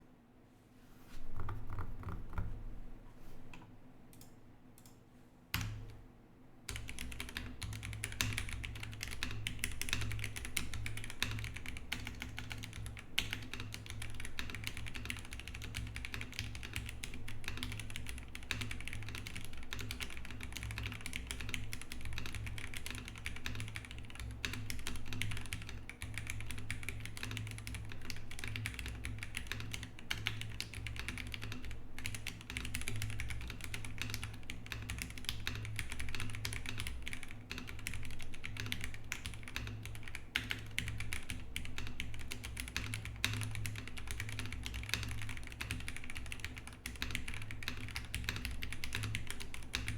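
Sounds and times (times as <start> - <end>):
mechanical keyboard typing: 1.4 - 2.6, 6.7 - 49.9.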